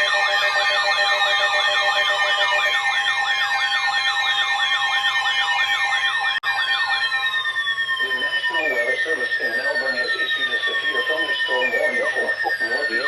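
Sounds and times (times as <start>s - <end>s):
steady beeping tones: 0.0s - 13.0s
warbling siren-like alert tone: 0.0s - 13.0s.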